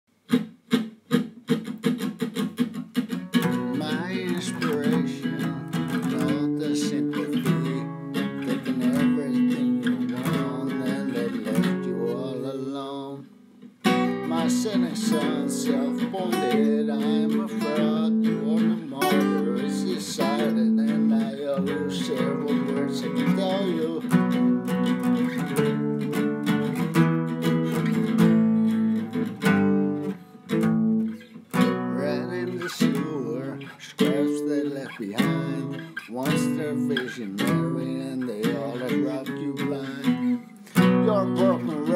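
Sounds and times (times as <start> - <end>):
acoustic guitar strumming chords: 0.2 - 41.9.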